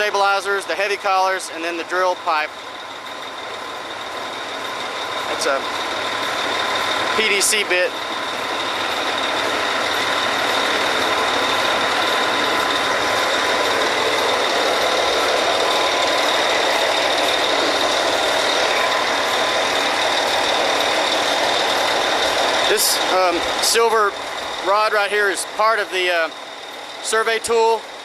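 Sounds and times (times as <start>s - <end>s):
drilling rig machinery noise: 0.0s - 28.0s
faint high whine: 0.0s - 28.0s.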